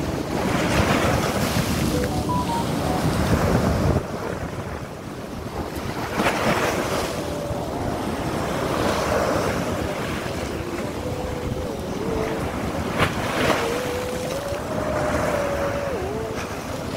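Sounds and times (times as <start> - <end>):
surf breaking on beach: 0.0 - 16.9
wind buffeting microphone: 0.0 - 16.9.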